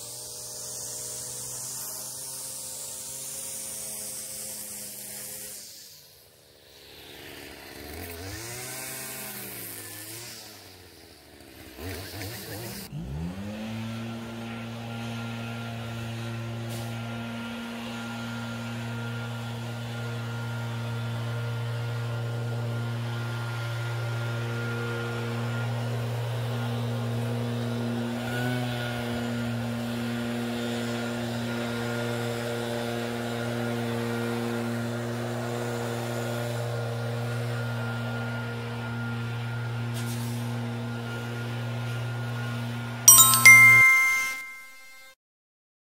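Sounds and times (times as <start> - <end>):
leaf blower running: 0.0 - 5.4, 6.8 - 41.8.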